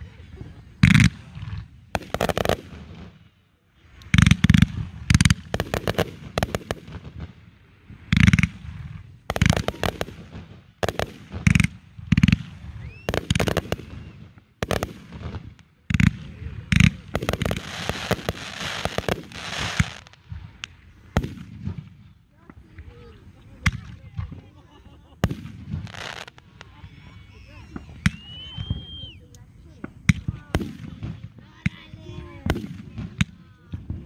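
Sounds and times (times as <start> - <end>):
dense firework crackling: 0.0 - 34.0.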